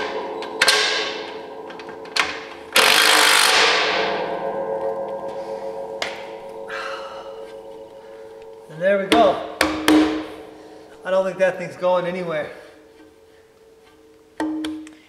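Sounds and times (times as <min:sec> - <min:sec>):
metal ringing tone: 0:00.0 - 0:15.0.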